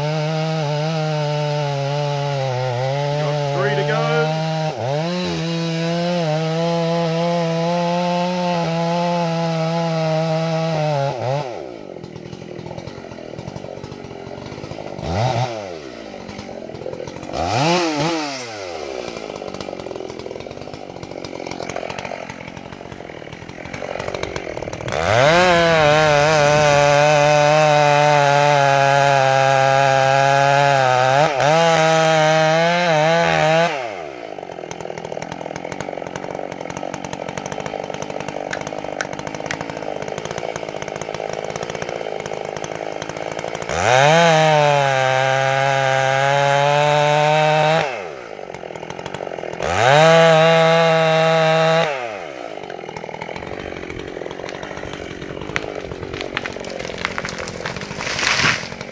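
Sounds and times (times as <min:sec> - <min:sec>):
chainsaw cutting into wood: 0:00.0 - 0:58.9
chainsaw idling and revving: 0:00.0 - 0:58.9.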